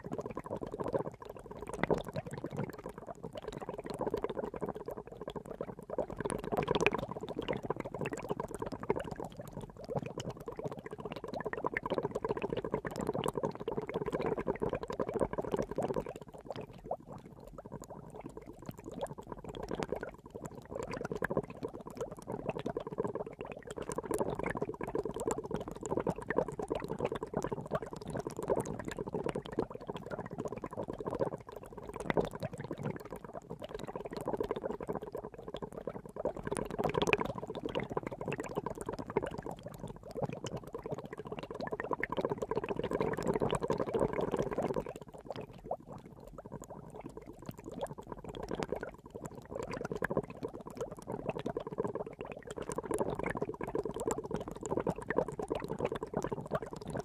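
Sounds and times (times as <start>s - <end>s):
water boiling and bubbling: 0.0s - 57.0s.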